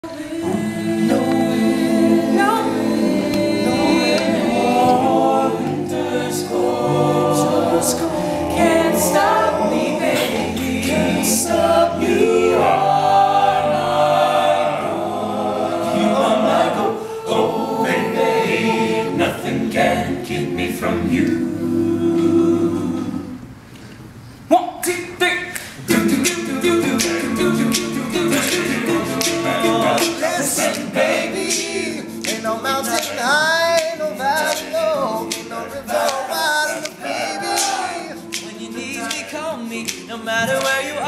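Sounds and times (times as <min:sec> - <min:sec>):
male a cappella group singing: 0:00.0 - 0:23.5, 0:25.2 - 0:41.0.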